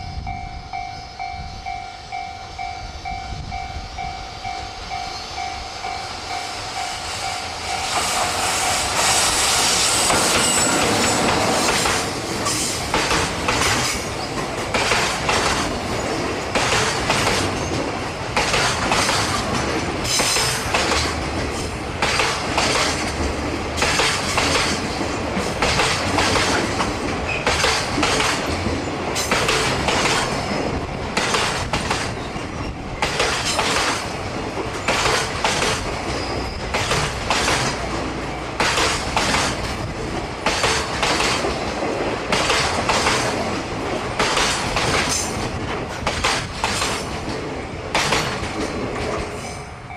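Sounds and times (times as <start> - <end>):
freight train rushing past: 0.0 - 49.9
wheels clacking over rail joints: 7.3 - 49.5.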